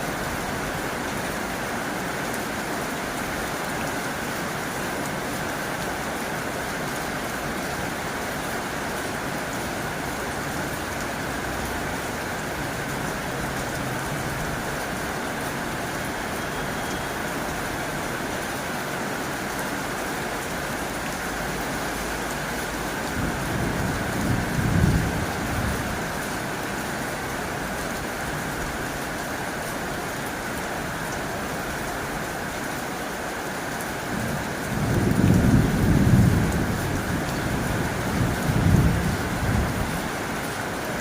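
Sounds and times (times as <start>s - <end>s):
heavy rain on a tin roof: 0.0s - 41.0s.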